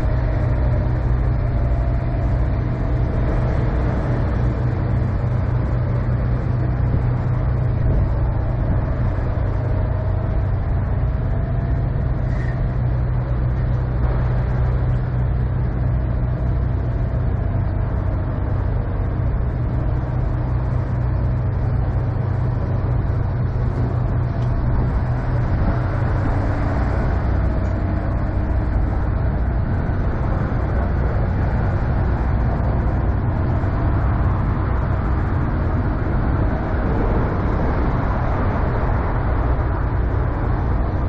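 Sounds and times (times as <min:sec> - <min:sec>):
diesel truck engines idling: 0:00.0 - 0:41.0.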